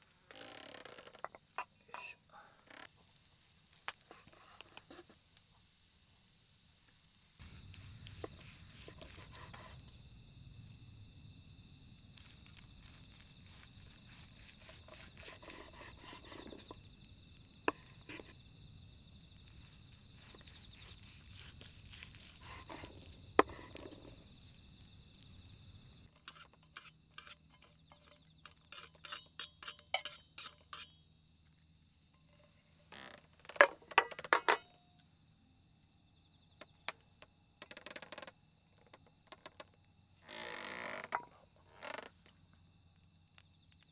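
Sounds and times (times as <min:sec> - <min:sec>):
insects chirping: 0:00.3 - 0:43.9.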